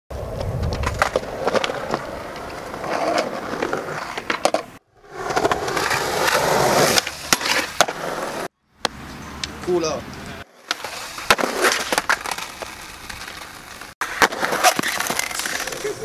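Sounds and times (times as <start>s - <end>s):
skateboard wheels rolling on concrete: 0.1s - 16.0s
skateboard clacking: 0.4s - 9.6s, 10.5s - 16.0s.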